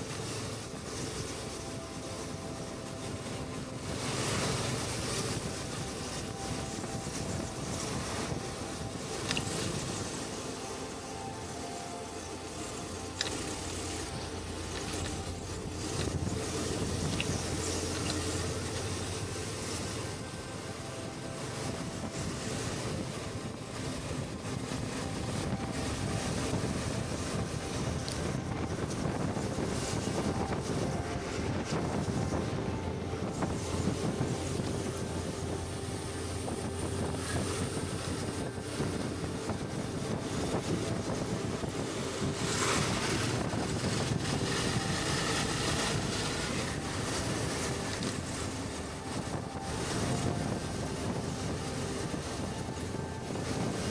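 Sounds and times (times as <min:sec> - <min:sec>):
muffled motorcycle engine: 0:00.0 - 0:53.9
wind rushing over microphone: 0:00.0 - 0:53.9.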